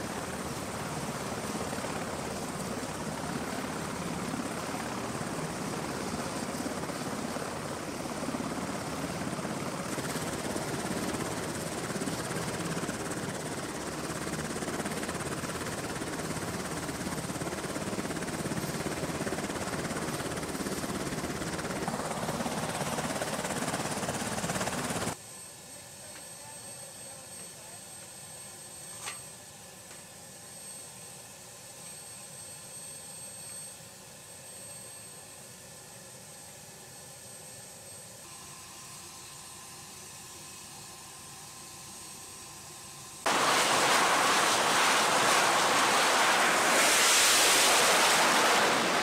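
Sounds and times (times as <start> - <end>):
helicopter engines and rotor: 0.0 - 49.0.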